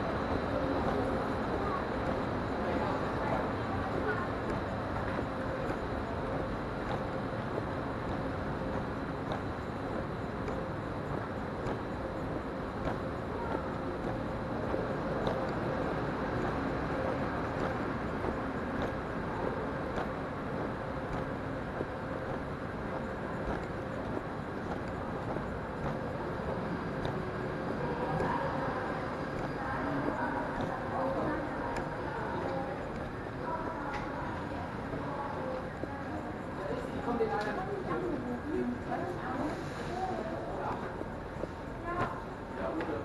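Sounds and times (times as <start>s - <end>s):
faint steady hum: 0.0s - 43.0s
rumbling background noise: 0.0s - 43.0s.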